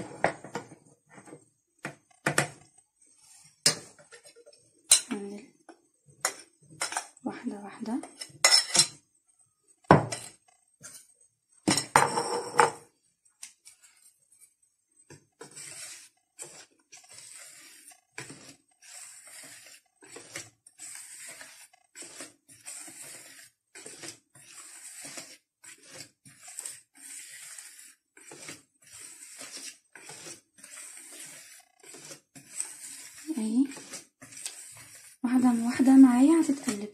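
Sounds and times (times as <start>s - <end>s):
spoon scraping mixing bowl: 0.0s - 12.8s, 13.4s - 36.9s.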